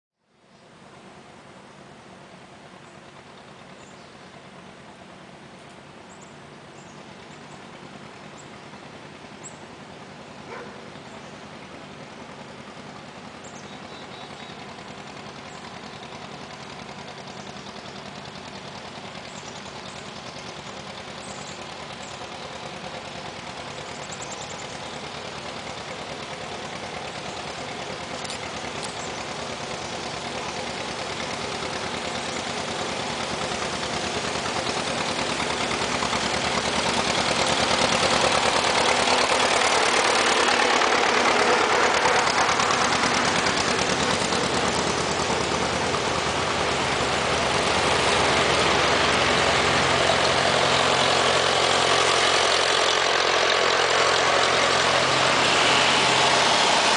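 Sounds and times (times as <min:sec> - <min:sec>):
tractor engines running: 0:00.4 - 0:56.9.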